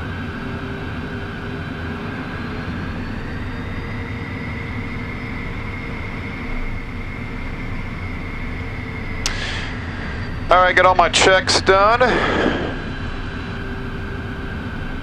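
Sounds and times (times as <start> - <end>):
jet engines rumbling with whine: 0.0 - 15.0.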